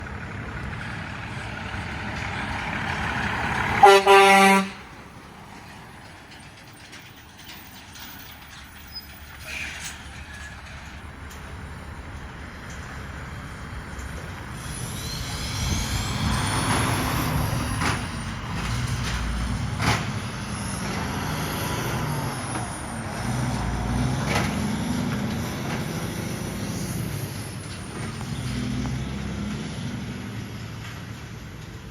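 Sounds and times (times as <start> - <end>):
diesel truck engine running: 0.0 - 31.9.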